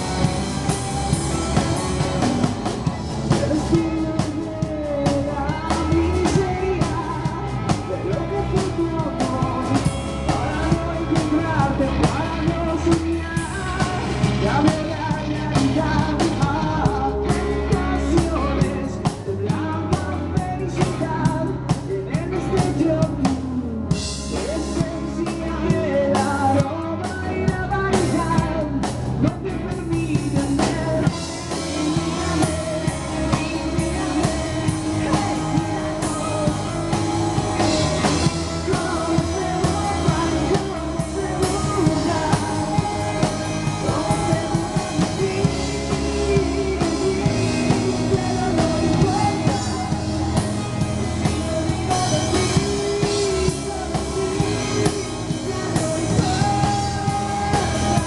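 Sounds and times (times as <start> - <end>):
live rock band: 0.0 - 58.0
person singing: 0.0 - 58.0.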